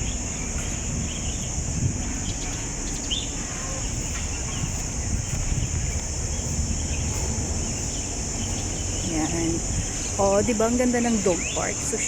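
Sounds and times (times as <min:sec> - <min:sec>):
bird chirps: 0:00.0 - 0:12.0
high insect drone: 0:00.0 - 0:12.0
low uneven rumble: 0:00.0 - 0:12.0.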